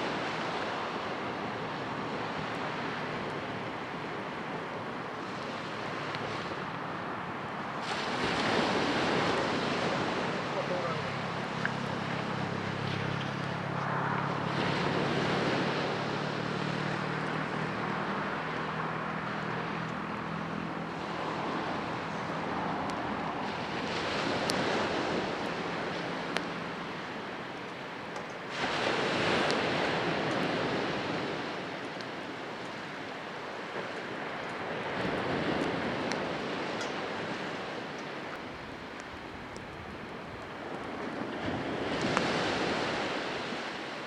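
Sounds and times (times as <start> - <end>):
waves breaking on shore: 0.0 - 44.0.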